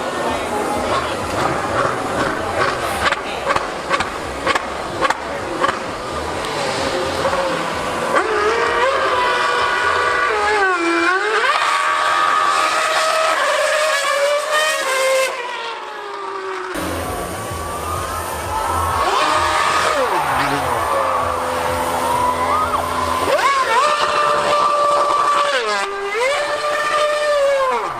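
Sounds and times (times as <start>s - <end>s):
racing engine screaming: 0.0s - 27.9s.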